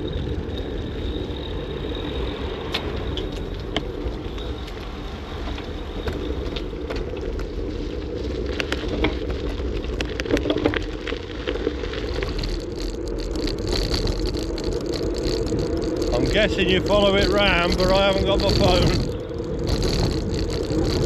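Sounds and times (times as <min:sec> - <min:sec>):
small rattles and clicks: 0:00.0 - 0:21.0
wind and road noise: 0:00.0 - 0:21.0.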